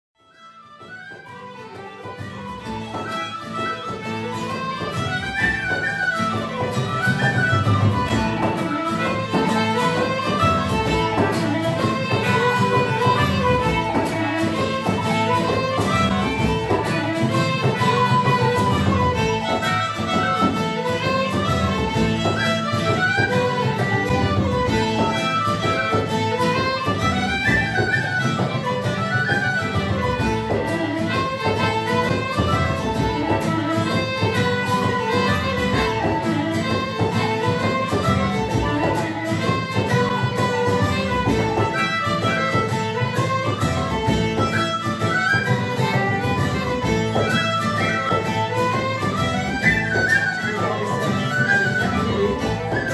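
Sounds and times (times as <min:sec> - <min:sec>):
fiddle and tin whistles: 0:00.2 - 0:52.9
plucked string accompaniment: 0:00.2 - 0:52.9.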